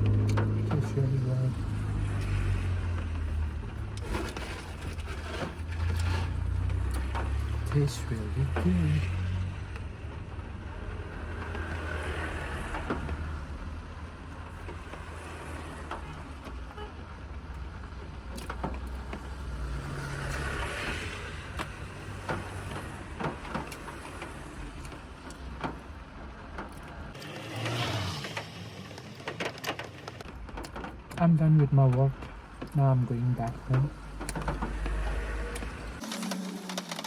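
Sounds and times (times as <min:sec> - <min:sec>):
car engine and road rumble: 0:00.0 - 0:37.0
passing traffic: 0:00.0 - 0:37.0.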